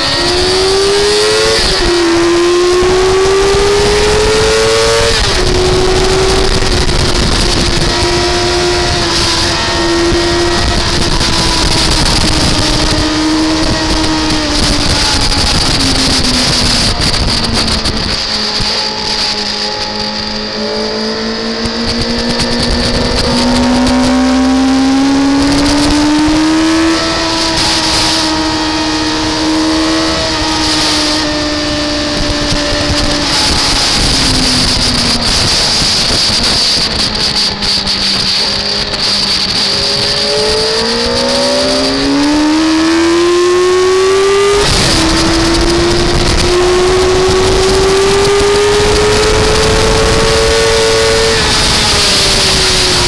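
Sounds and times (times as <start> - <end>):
race car engine revving: 0.0 - 53.0
wind and road noise: 0.0 - 53.0.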